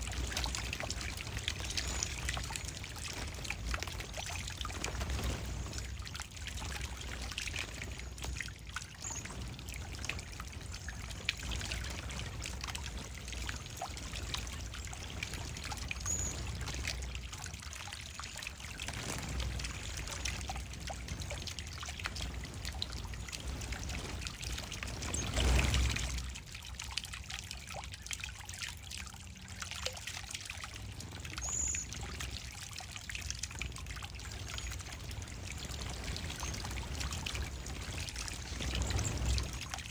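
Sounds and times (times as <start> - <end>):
birds splashing in water: 0.0 - 39.9
water trickling: 0.0 - 39.9.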